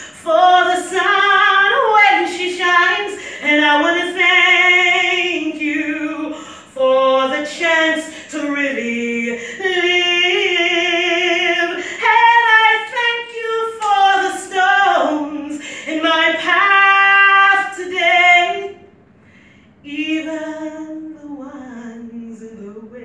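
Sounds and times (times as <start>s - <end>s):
woman singing: 0.0s - 18.8s, 19.8s - 23.0s.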